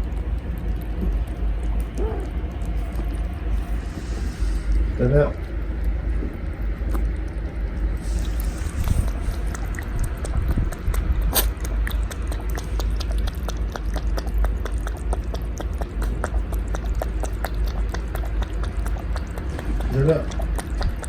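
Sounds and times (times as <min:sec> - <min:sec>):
cat lapping milk: 0:00.0 - 0:21.0.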